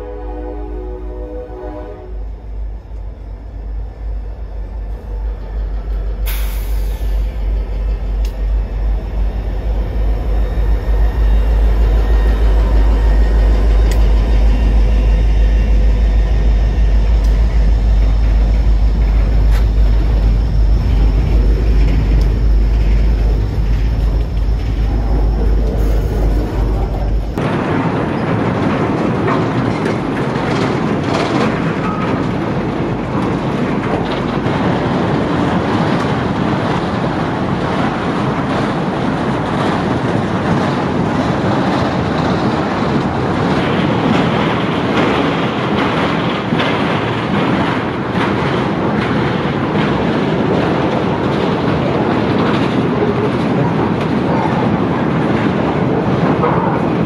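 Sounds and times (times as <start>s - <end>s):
train wheels rumbling on track: 0.0s - 57.0s
wheels clicking on rails: 2.4s - 57.0s.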